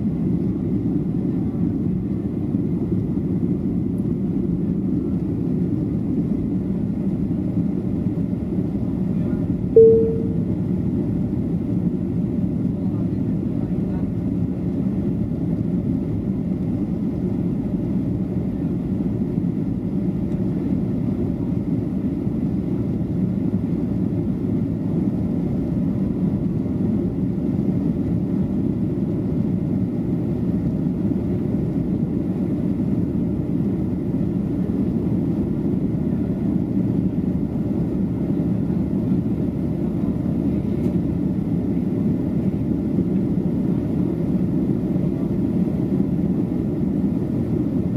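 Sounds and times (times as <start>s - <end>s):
jet engine drone in cabin: 0.0s - 47.9s.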